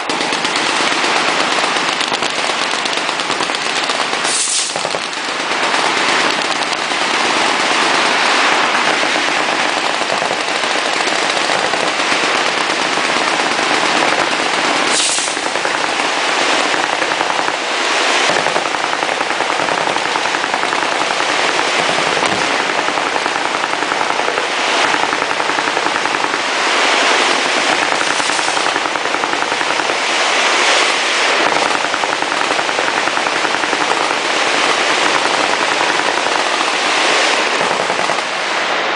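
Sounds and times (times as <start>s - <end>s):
machine gun fire: 0.0s - 38.5s.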